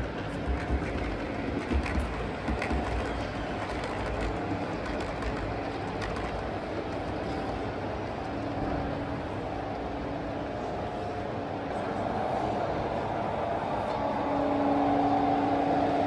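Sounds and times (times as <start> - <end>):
model train running: 0.0 - 16.0.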